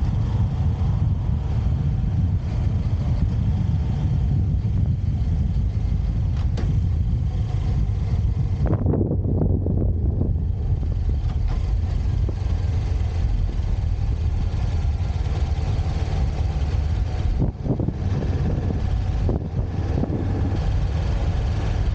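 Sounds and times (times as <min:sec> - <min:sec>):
motorcycle engine rumbling: 0:00.0 - 0:21.9.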